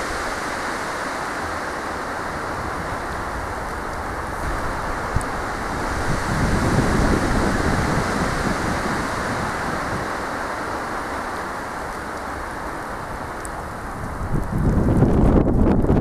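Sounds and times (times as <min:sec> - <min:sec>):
stormy wind through trees: 0:00.0 - 0:16.0.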